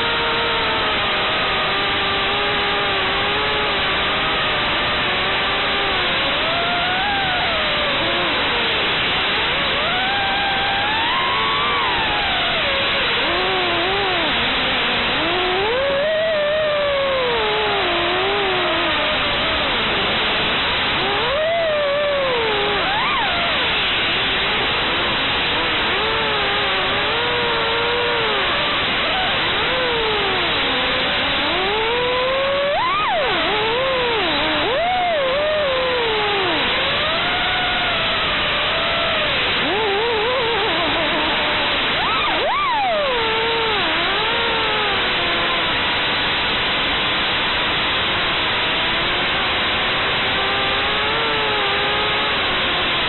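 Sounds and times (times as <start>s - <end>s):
drone motors whining: 0.0s - 53.0s
loud steady hiss: 0.0s - 53.0s.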